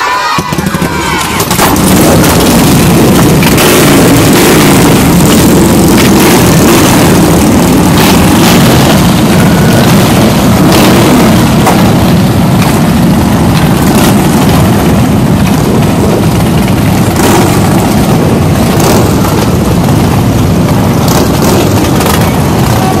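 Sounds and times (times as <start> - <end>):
motorcycles idling: 0.0 - 23.0.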